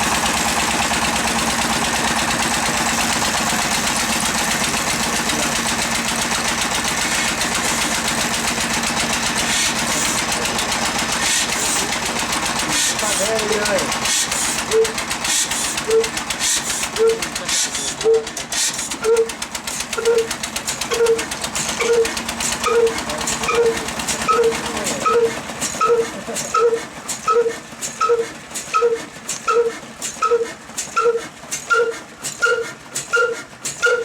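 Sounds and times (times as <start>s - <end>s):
diesel engine running slowly: 0.0s - 34.0s
fast mechanical clatter: 0.0s - 34.0s.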